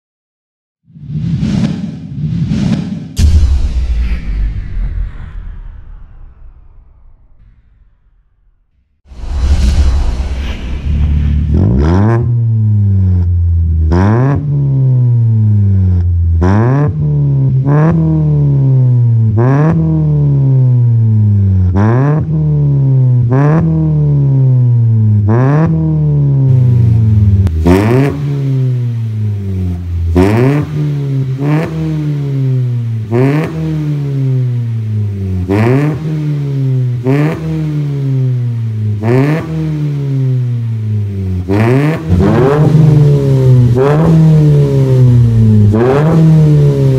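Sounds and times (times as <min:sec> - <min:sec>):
car engine revving: 0:09.1 - 0:46.9.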